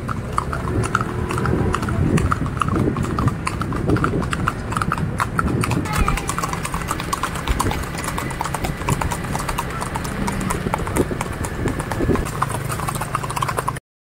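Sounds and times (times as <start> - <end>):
horse hooves on paved road: 0.0 - 13.8.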